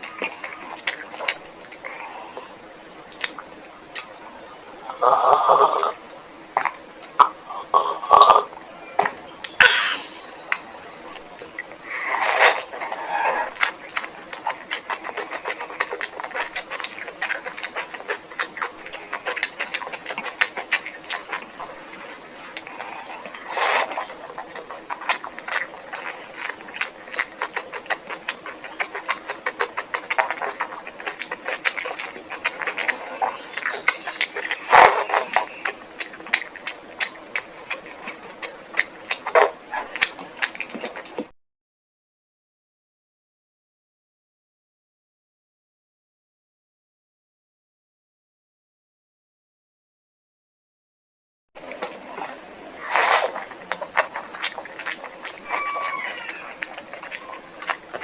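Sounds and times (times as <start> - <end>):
close-miked chewing: 0.0 - 41.3, 51.6 - 58.0.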